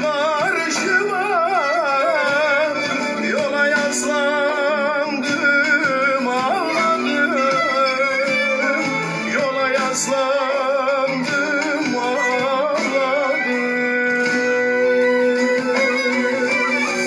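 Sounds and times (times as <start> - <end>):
instrumental backing: 0.0 - 17.0
person singing folk song: 0.0 - 17.0.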